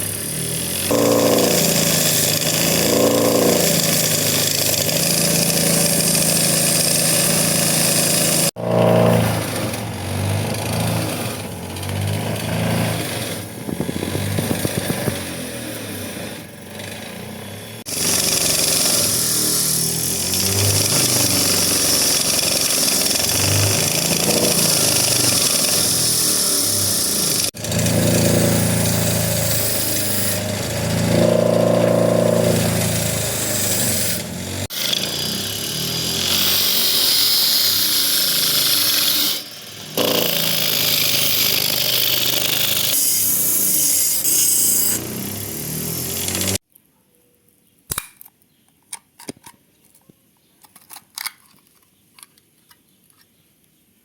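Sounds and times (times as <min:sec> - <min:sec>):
motor-driven machinery running: 0:00.0 - 0:46.6.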